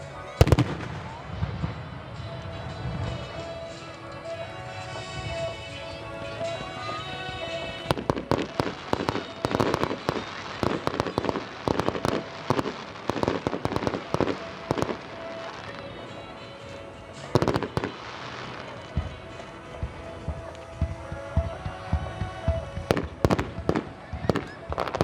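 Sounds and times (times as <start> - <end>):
fireworks bangs and crackles: 0.0 - 25.0
music playing: 0.0 - 25.0.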